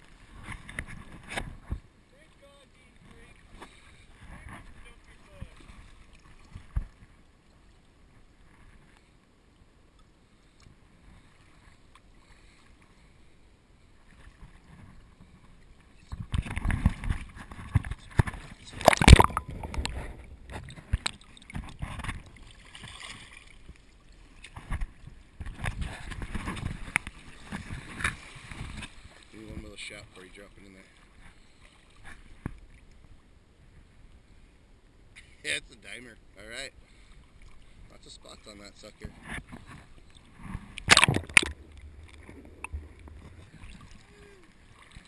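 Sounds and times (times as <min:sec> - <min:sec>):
water sounds: 0:00.0 - 0:45.0.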